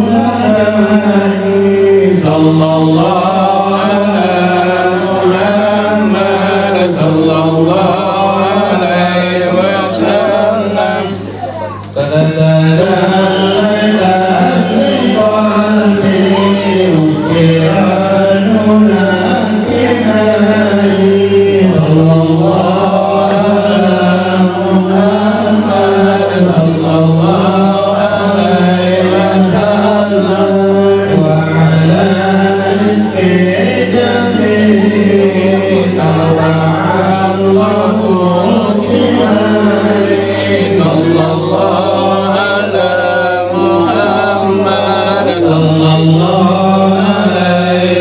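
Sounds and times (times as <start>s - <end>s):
voices chanting devotional verses: 0.0s - 48.0s.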